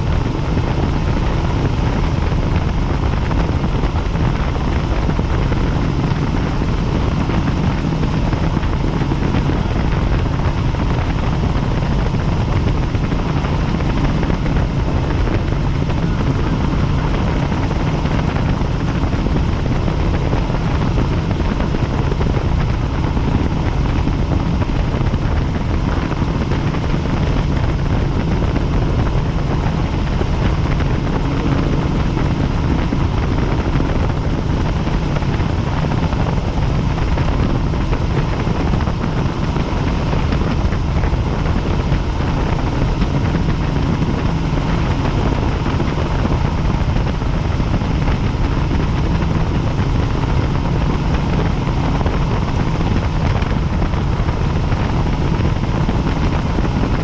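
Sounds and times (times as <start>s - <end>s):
helicopter rotor drone: 0.0s - 57.0s.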